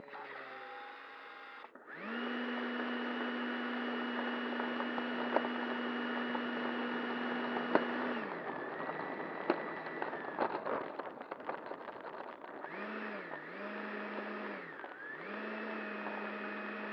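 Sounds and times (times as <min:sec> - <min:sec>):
electric ducted fan whining: 0:00.0 - 0:16.9.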